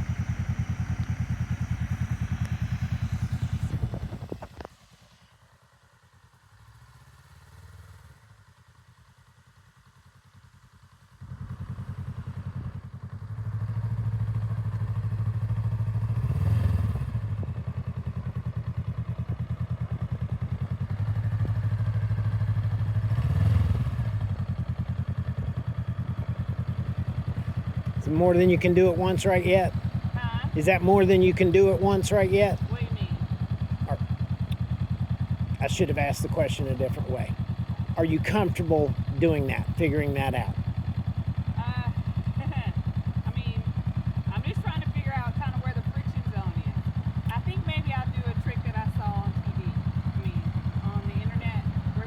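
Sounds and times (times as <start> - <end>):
motorcycle engine idling: 0.0 - 52.0.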